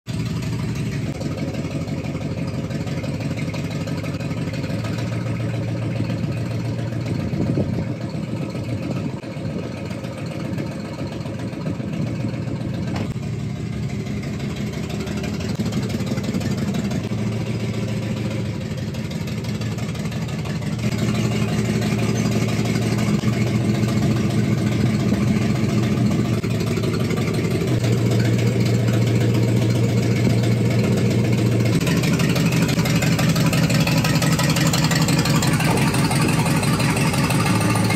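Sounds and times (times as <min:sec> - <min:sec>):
pickup truck engine running: 0:00.1 - 0:37.9.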